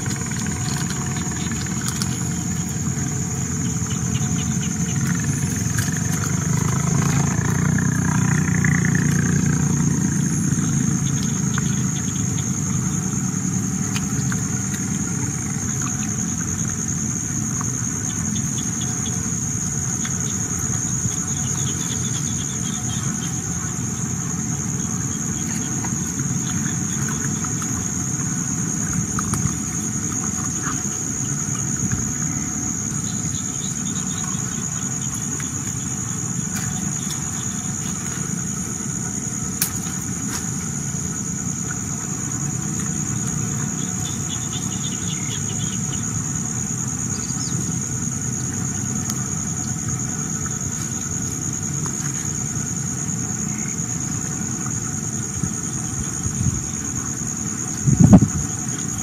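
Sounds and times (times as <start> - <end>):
high-pitched insect whine: 0.0 - 59.0
insect chirping trills: 0.0 - 59.0
low steady rumble: 0.0 - 59.0.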